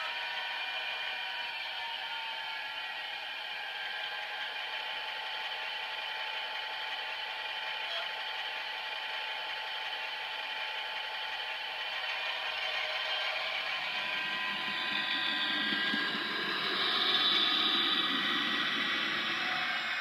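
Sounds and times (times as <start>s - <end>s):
tinny diesel engine sound from speaker: 0.0s - 20.0s.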